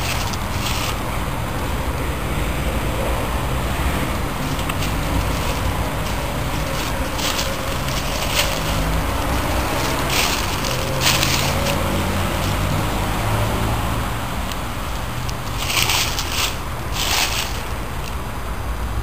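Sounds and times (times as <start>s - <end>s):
footsteps on dry leaves: 0.0s - 1.4s, 3.4s - 13.9s, 14.7s - 18.2s
car engine idling: 0.0s - 18.2s.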